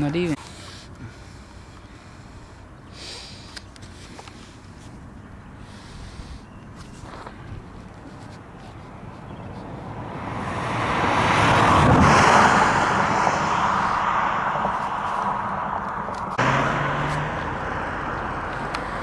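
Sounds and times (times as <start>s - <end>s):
road vehicle passing by: 0.0s - 19.0s.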